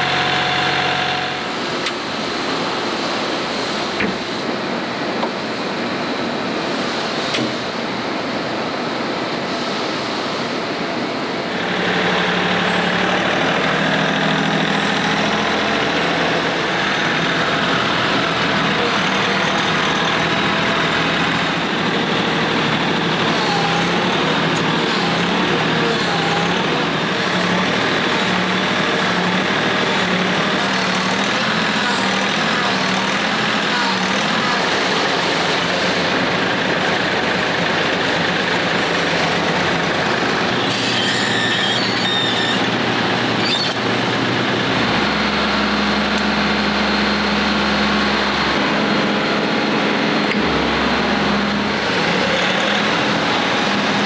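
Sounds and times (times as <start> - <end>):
tractor diesel engine running: 0.0 - 6.6, 10.4 - 54.0
factory machinery noise: 0.0 - 54.0.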